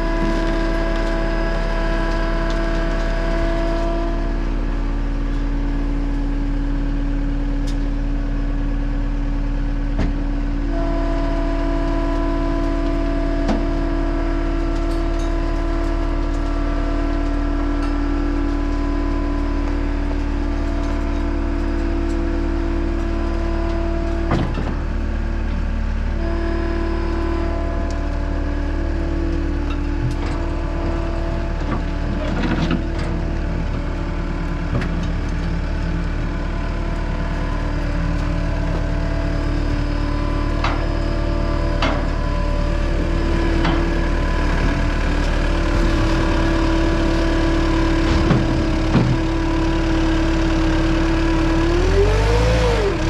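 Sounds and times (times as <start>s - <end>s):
diesel engine running: 0.0s - 53.0s
hydraulic whine: 0.0s - 53.0s.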